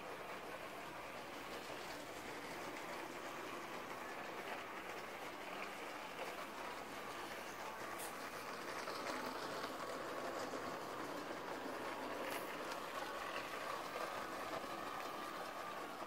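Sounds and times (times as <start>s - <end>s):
toy train motor whirring: 0.0s - 16.0s.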